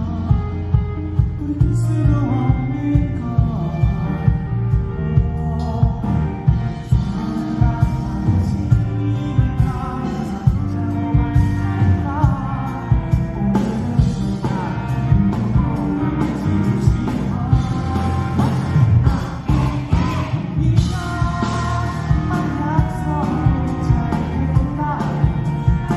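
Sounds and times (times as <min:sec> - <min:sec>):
person singing: 0:00.0 - 0:25.9
pop-rock band music: 0:00.0 - 0:25.9
steady drum beat: 0:00.0 - 0:25.9.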